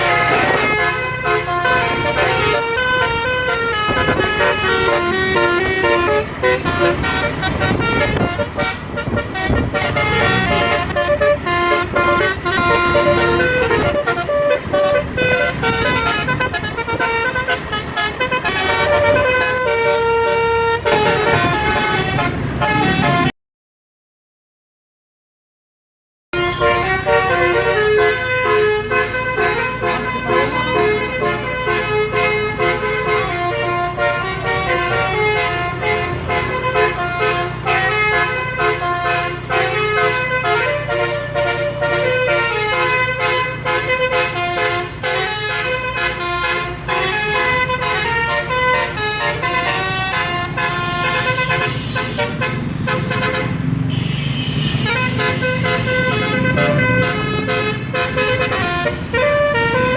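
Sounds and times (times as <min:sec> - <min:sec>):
musical air horn playing a tune: 0:00.0 - 0:23.3, 0:26.4 - 0:59.9
vehicle engine noise: 0:00.0 - 0:23.3, 0:26.4 - 0:59.9.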